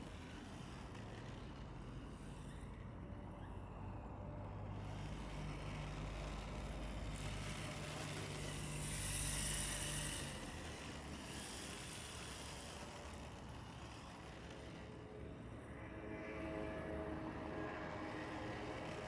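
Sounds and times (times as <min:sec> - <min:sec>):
rc car motor and tyre hiss: 0:00.0 - 0:15.5, 0:17.5 - 0:19.0.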